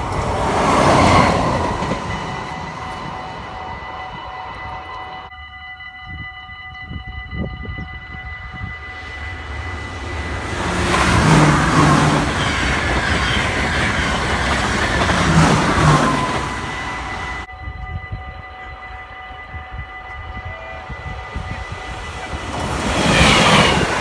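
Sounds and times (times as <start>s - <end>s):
electric train passing: 0.0s - 24.0s
level crossing warning bell: 0.0s - 24.0s.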